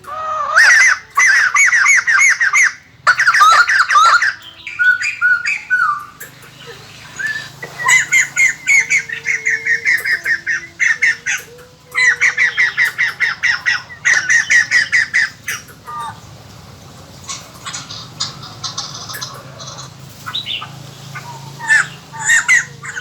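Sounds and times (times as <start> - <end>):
birds chattering rapid notes: 0.0 - 23.0
quiet bird calls: 0.0 - 23.0.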